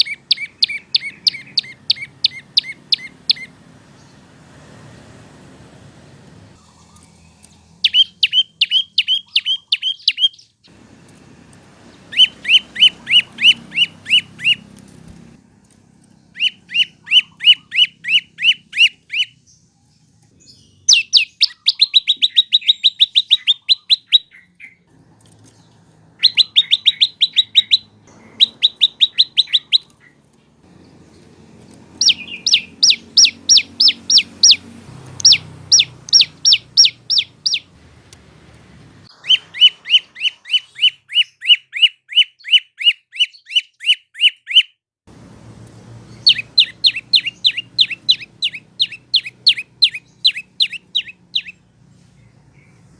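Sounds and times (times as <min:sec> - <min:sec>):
bird rapid sharp chirps: 0:00.0 - 0:04.3, 0:06.6 - 0:10.8, 0:11.8 - 0:15.1, 0:16.1 - 0:19.7, 0:20.4 - 0:24.9, 0:25.5 - 0:37.8, 0:39.0 - 0:44.8, 0:46.0 - 0:52.9.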